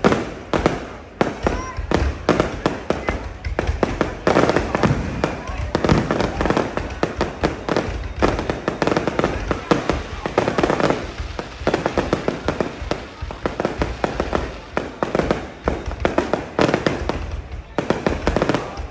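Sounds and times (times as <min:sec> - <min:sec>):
fireworks crackling and popping: 0:00.0 - 0:18.9
heavy firework bangs: 0:00.0 - 0:18.9.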